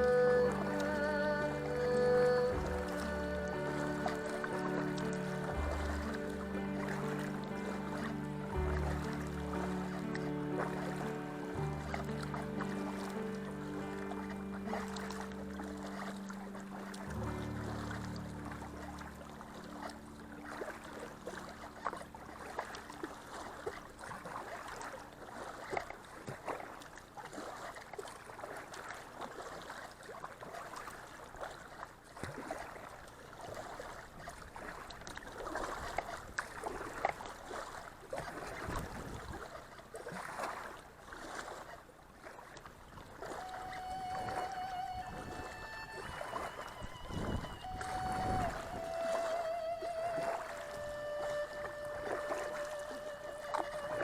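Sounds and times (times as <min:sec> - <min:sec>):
river water splashing against kayak: 0:00.0 - 0:54.0.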